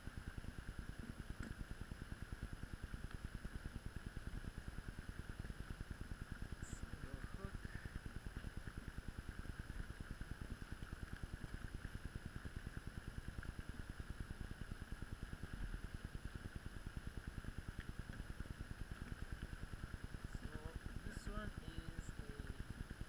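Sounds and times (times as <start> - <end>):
faint hiss: 0.9 - 23.0.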